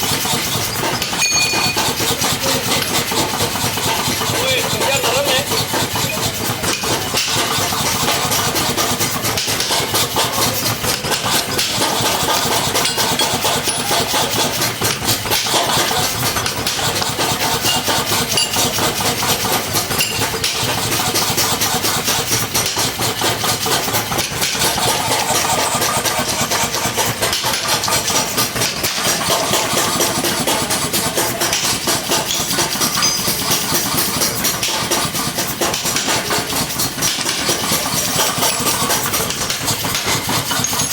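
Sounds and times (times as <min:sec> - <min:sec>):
mechanical hammer pounding: 0:00.0 - 0:40.9.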